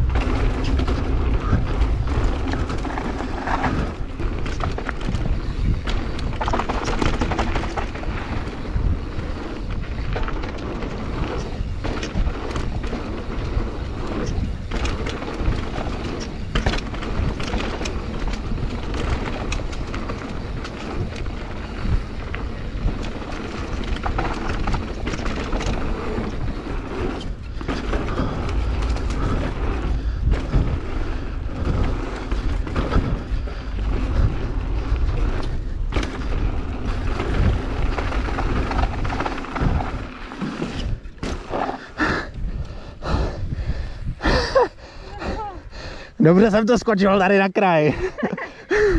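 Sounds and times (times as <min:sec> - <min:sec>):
tyre noise on dirt: 0:00.0 - 0:42.5
bike rattling and knocking: 0:00.0 - 0:45.5
wind rumbling on microphone: 0:00.0 - 0:47.0.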